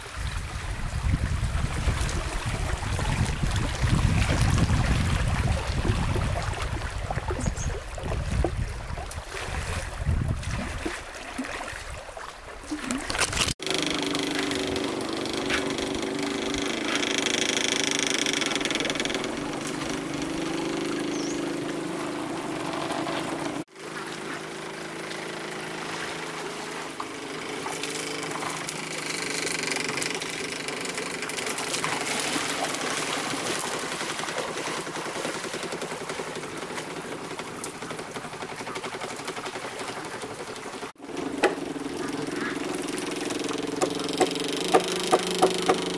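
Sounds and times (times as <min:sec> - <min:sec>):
river water rushing and splashing: 0:00.0 - 0:45.9.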